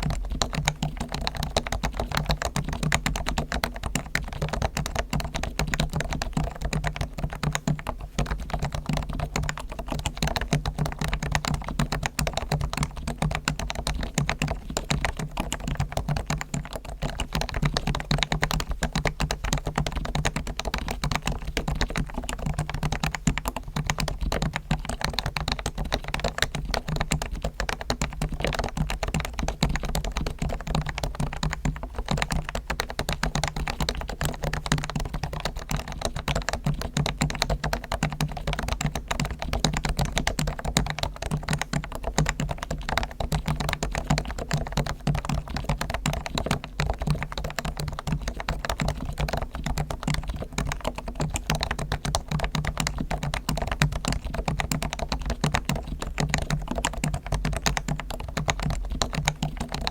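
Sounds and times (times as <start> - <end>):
fast keyboard typing: 0.0 - 59.9.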